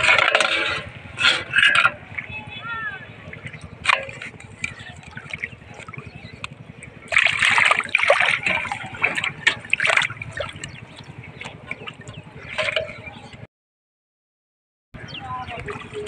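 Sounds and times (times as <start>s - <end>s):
shallow water splashing: 0.0s - 13.4s, 15.3s - 16.0s.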